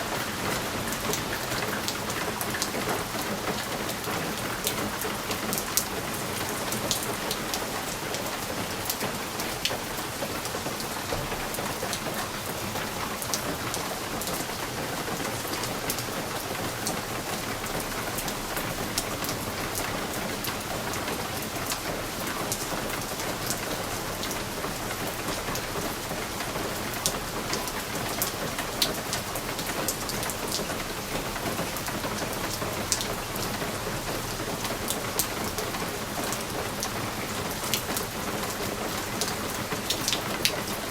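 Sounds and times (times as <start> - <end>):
rain against a window: 0.0 - 40.9.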